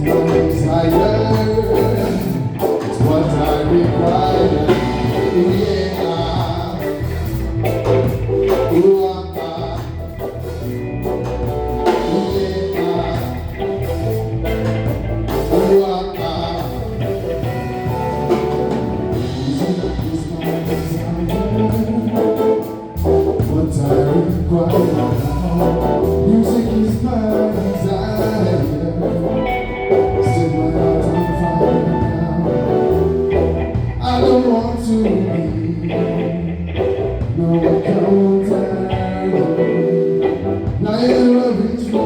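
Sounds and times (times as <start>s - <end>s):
live band music: 0.0s - 42.0s
person singing: 0.0s - 42.0s.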